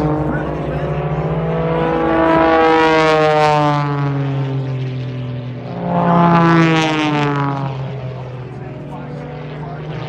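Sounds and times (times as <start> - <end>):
propeller airplane engine drone: 0.0 - 10.0.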